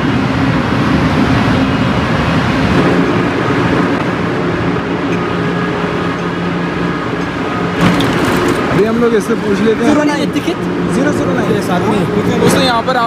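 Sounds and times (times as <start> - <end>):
faint constant tones: 0.0 - 13.0
train hum and rushing: 0.0 - 13.0.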